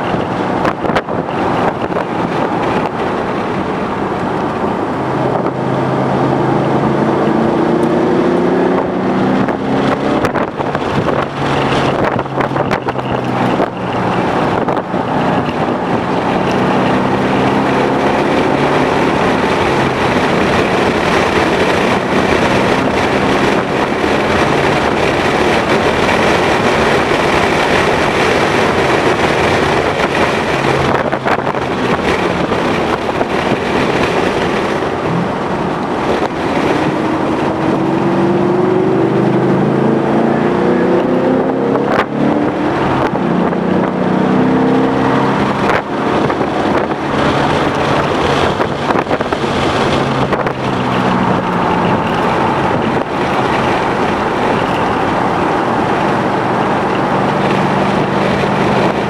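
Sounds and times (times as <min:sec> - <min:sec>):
car engine revving: 0:00.0 - 0:59.0
wind noise: 0:00.0 - 0:59.0.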